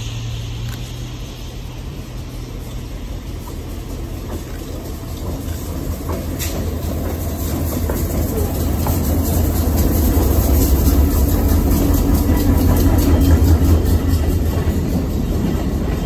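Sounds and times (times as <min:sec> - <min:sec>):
diesel locomotive engines rumbling: 0:00.0 - 0:16.0.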